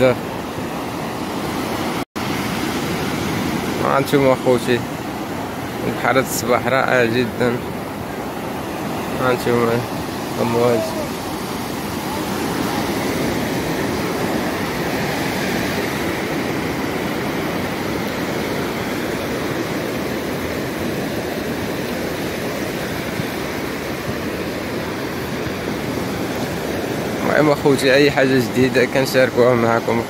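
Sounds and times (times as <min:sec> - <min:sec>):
waves breaking on beach: 0:00.0 - 0:30.0.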